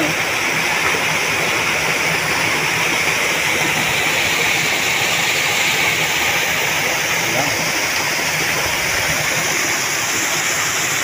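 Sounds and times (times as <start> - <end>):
water rushing over a dam: 0.0 - 11.0.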